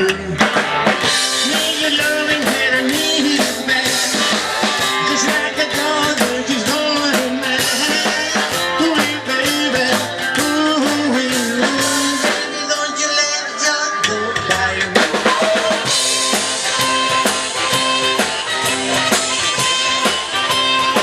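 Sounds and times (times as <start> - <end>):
drum kit beat: 0.0 - 21.0
rock and roll band playing: 0.0 - 21.0.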